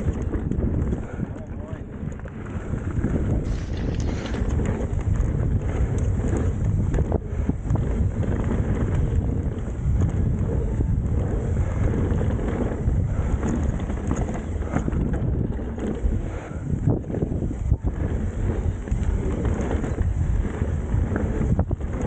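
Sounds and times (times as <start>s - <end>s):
bike knocks and rattles: 0.0s - 22.0s
tyre noise on dirt: 0.0s - 22.0s
wind rushing over microphone: 0.0s - 22.0s.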